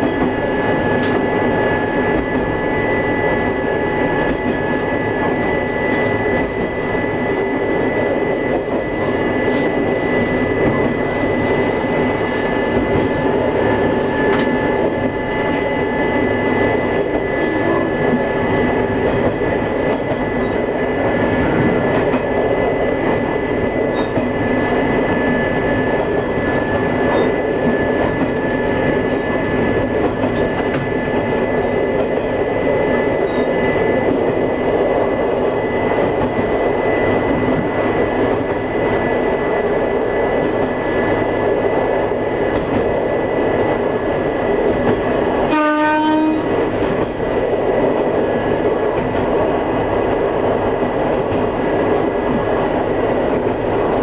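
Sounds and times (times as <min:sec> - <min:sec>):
railcar running noise: 0:00.0 - 0:54.0.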